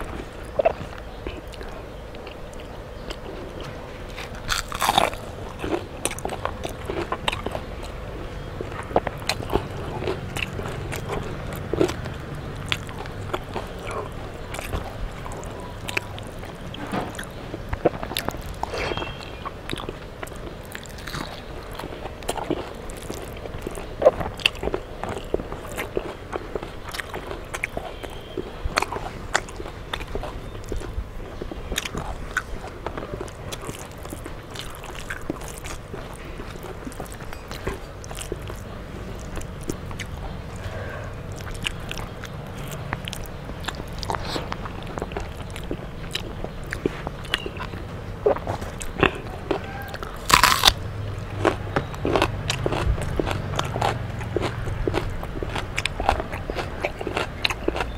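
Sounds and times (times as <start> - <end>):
chewing and crunching fried food: 0.0 - 57.9.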